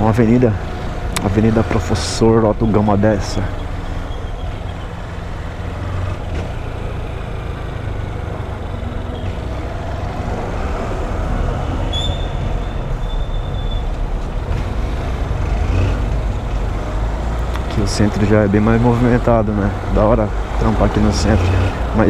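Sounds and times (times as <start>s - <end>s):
motorcycle engine rumbling: 0.0s - 22.0s
wind and road noise: 0.0s - 22.0s.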